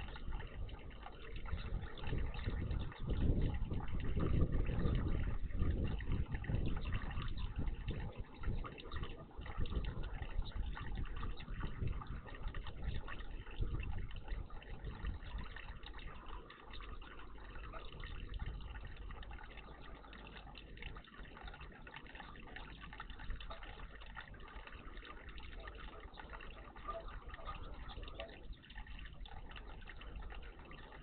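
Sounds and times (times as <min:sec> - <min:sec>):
water running and splashing: 0:00.0 - 0:31.0.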